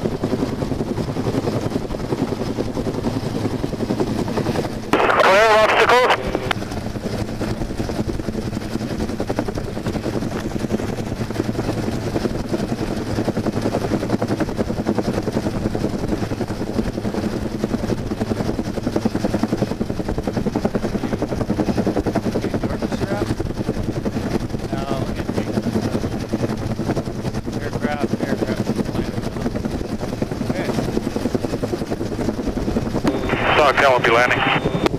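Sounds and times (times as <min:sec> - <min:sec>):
helicopter engine drone: 0:00.0 - 0:34.9
helicopter rotor beating: 0:00.0 - 0:34.9.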